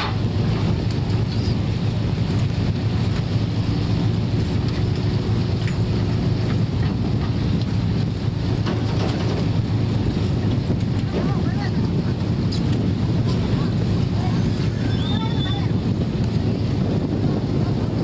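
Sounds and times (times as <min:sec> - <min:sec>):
boat engine droning: 0:00.0 - 0:18.0
sea wash: 0:00.0 - 0:18.0
wind noise on microphone: 0:00.0 - 0:18.0.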